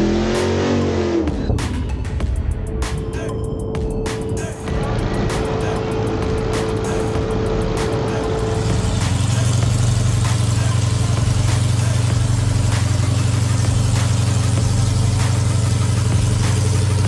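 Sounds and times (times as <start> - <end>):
car engine idling: 1.3 - 17.0.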